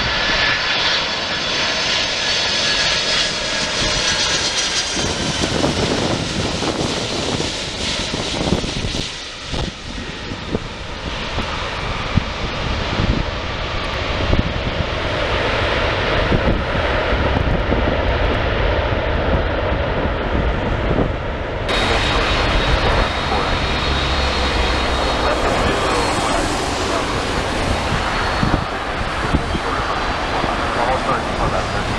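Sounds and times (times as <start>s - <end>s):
jet engines roaring: 0.0s - 31.9s.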